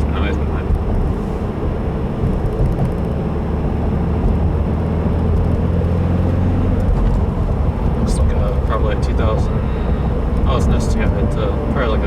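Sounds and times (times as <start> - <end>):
car engine running: 0.0 - 12.0
tyre and road noise: 0.0 - 12.0.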